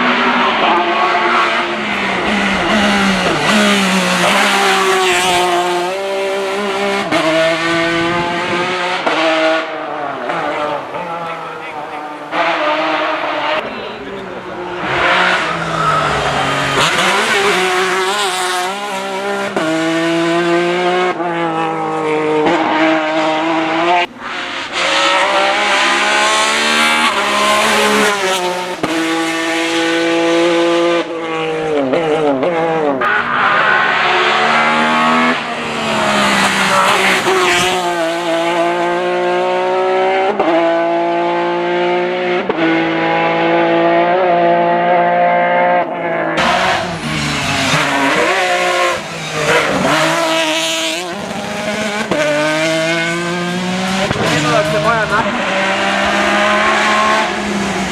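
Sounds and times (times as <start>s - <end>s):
racing car engine revving: 0.0s - 57.9s.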